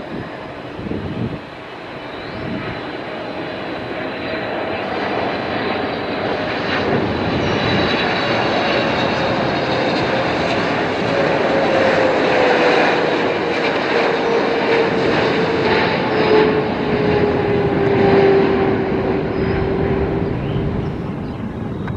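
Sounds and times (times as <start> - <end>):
jet engine roar: 0.0 - 21.9.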